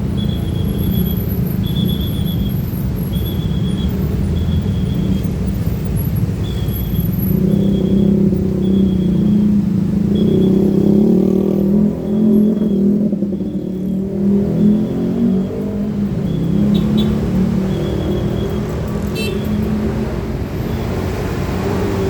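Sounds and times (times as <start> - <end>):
low rumble of engines: 0.0 - 22.0.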